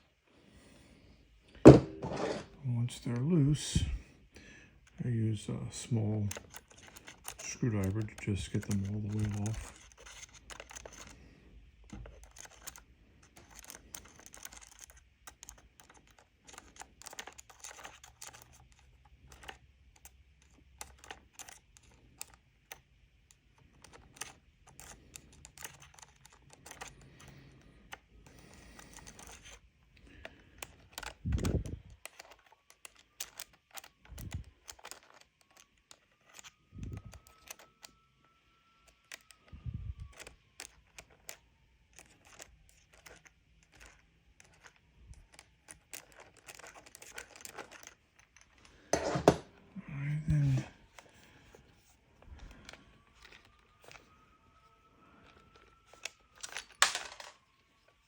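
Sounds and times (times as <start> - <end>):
screwdriver clicking and scraping: 1.9 - 2.5, 6.0 - 11.2, 11.8 - 36.6, 37.2 - 38.0, 38.8 - 39.5, 40.1 - 49.5, 50.9 - 54.1, 55.2 - 57.9.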